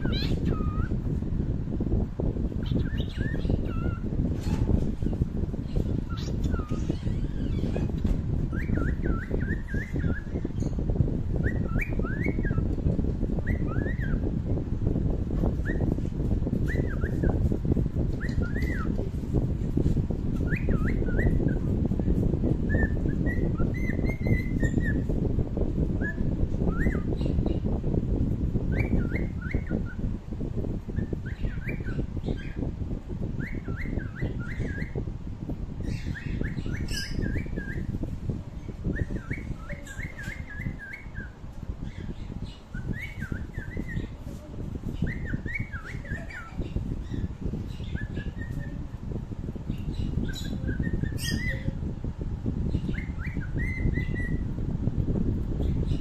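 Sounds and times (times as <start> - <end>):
bird chirping: 0.0 - 1.2, 1.9 - 25.2, 25.8 - 35.1, 35.8 - 44.2, 44.8 - 48.8, 49.7 - 51.8, 52.6 - 54.6
steady low rumble: 0.0 - 56.0.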